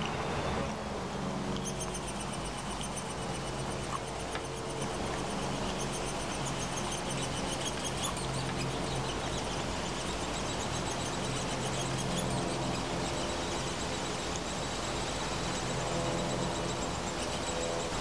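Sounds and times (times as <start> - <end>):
steady low hum: 0.0 - 18.0
high chirps or squeaks: 1.5 - 18.0.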